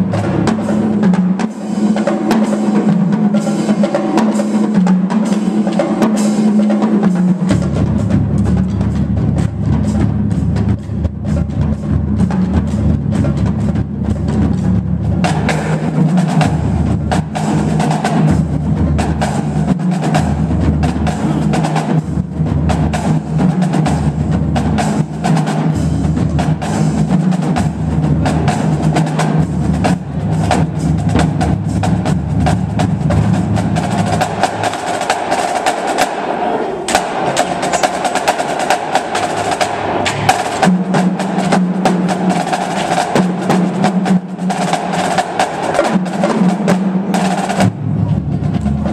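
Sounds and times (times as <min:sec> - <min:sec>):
snare drums: 0:00.0 - 0:48.9
tenor drums: 0:00.0 - 0:48.9
bass drums: 0:07.0 - 0:35.7, 0:36.9 - 0:48.9.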